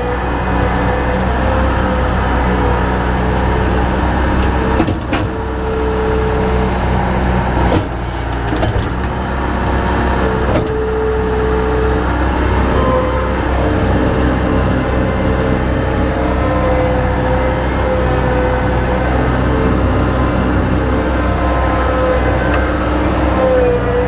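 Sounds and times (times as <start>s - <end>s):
engine whine: 0.0s - 24.0s
heavy engine running: 0.0s - 24.0s.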